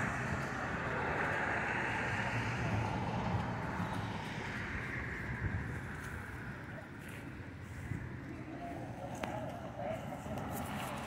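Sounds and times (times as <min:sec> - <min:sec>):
vehicles rushing nearby: 0:00.0 - 0:11.0.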